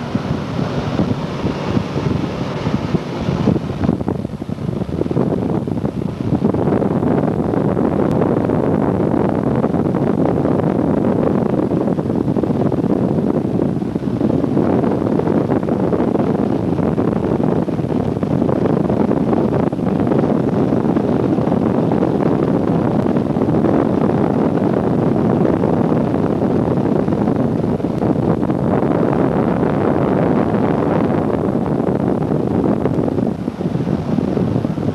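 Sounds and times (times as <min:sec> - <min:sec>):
airplane cabin engine roar: 0:00.0 - 0:34.9.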